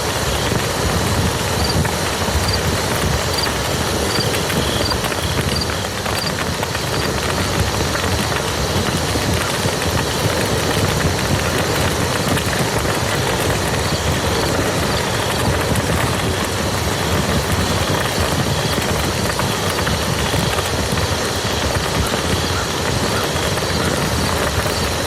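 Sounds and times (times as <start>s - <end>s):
rain falling on mud: 0.0s - 25.0s.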